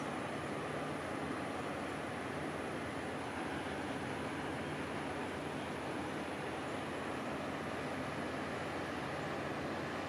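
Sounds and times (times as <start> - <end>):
distant engines rumbling: 0.0 - 10.0
faint high whine: 0.0 - 10.0.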